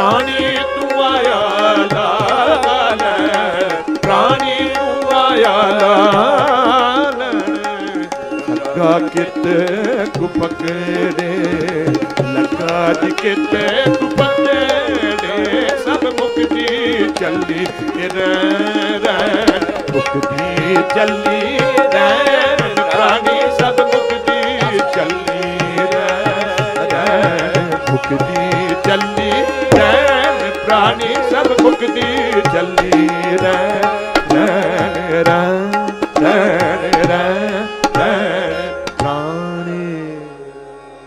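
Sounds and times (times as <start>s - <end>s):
tabla rhythm: 0.0s - 40.2s
bowed string melody: 0.0s - 41.0s.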